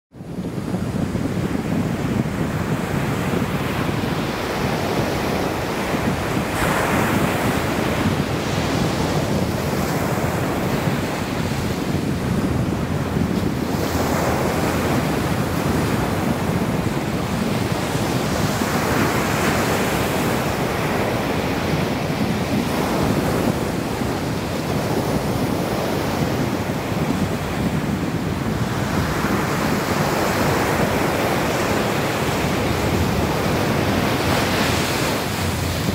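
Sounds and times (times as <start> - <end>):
wind noise on microphone: 0.1 - 35.9
ocean surf breaking on beach: 0.2 - 35.9.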